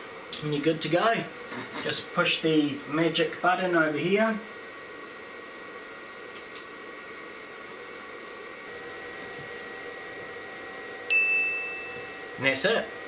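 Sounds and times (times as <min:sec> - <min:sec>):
machine whirring hum: 0:00.0 - 0:13.0.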